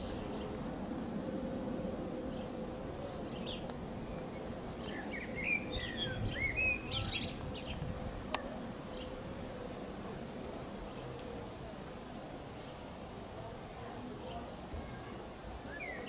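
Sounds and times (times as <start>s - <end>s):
distant jet engine drone: 0.0s - 16.0s.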